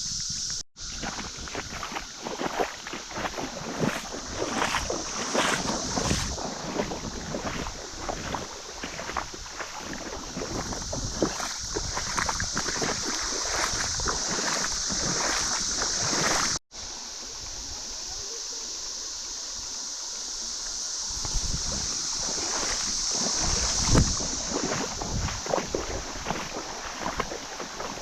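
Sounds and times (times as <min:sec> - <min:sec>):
wind on microphone: 0:00.0 - 0:16.6, 0:21.1 - 0:28.0
cicada chorus drone: 0:00.0 - 0:28.0
river water: 0:00.0 - 0:28.0.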